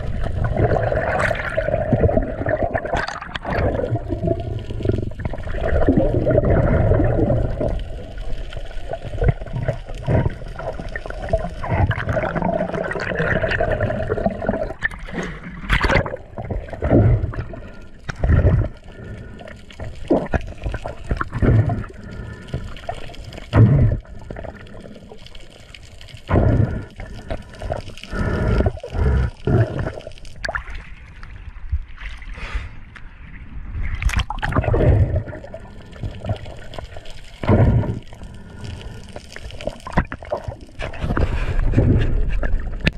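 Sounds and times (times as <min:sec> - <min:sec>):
water sloshing and bubbling underwater: 0:00.0 - 0:42.9.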